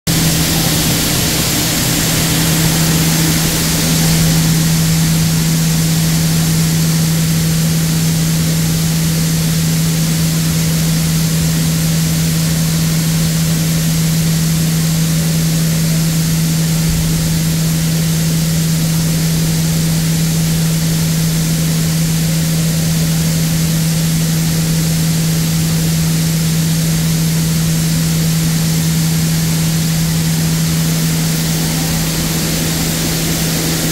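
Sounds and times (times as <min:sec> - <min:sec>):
mill machinery humming and hissing: 0:00.1 - 0:33.9.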